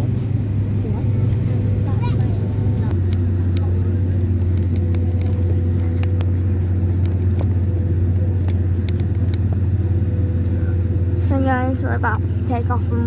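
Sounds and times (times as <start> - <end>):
low rumble in aircraft cabin: 0.0 - 13.0.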